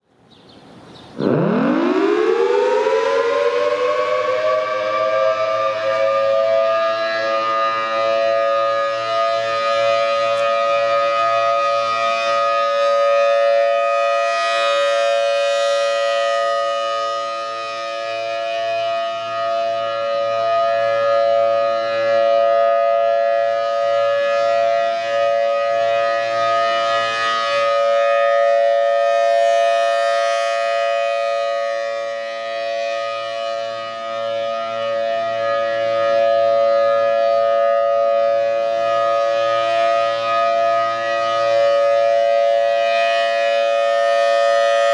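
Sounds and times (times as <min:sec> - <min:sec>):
warning siren wailing: 0:01.2 - 0:44.9.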